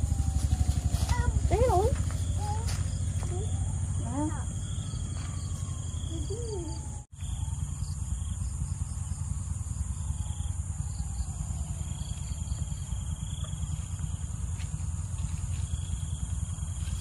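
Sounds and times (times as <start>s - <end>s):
insect pulsing trill: 0.0s - 17.0s
insects buzzing: 0.0s - 17.0s.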